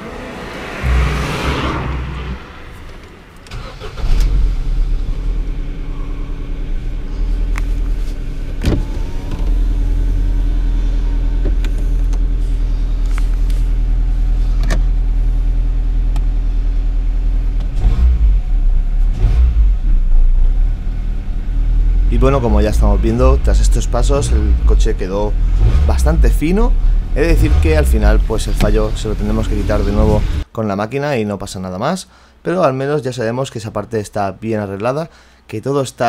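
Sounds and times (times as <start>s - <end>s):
car engine starting and idling: 0.0s - 30.5s.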